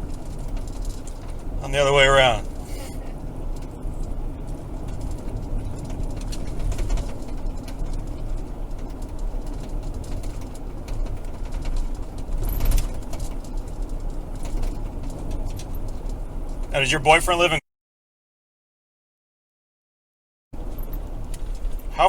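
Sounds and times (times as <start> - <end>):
car road and engine rumble: 0.0 - 17.6, 20.6 - 22.0.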